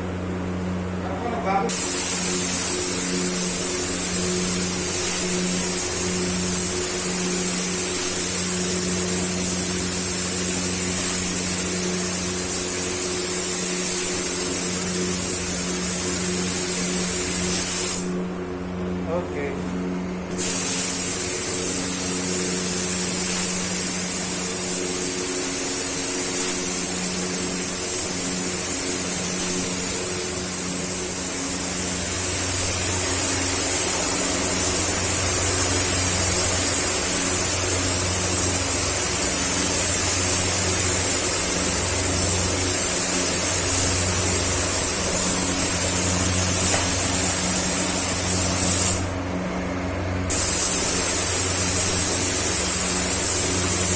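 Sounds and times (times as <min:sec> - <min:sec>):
steady low hum: 0:00.0 - 0:53.9
spray gun hissing: 0:01.7 - 0:18.3, 0:20.2 - 0:49.2, 0:50.2 - 0:53.9.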